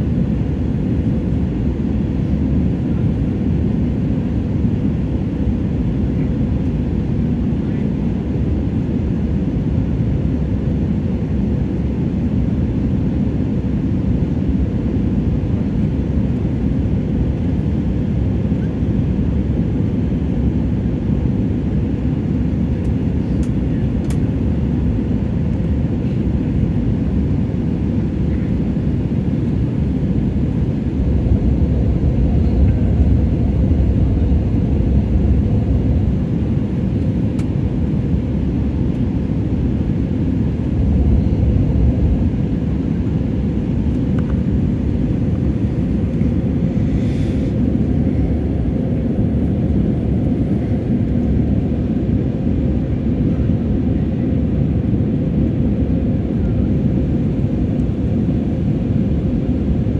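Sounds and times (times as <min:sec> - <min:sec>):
jet airliner cabin rumble: 0:00.0 - 0:59.9.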